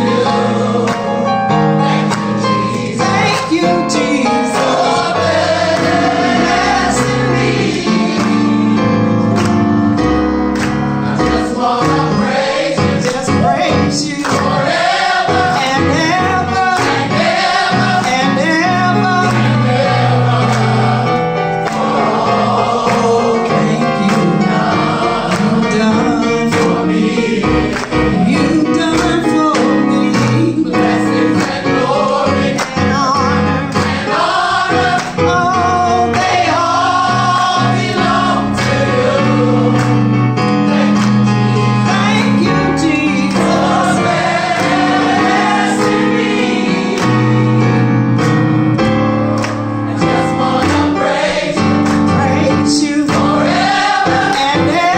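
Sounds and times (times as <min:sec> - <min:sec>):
gospel vocal group singing: 0:00.0 - 0:54.9.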